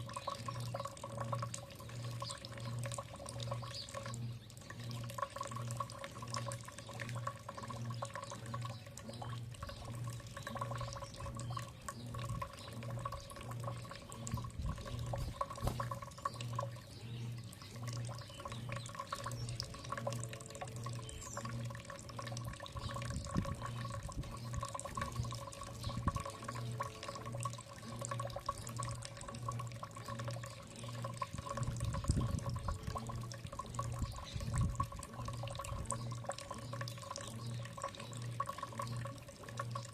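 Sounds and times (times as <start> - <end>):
steady hum: 0.0 - 39.9
water trickling and dripping: 0.0 - 39.9.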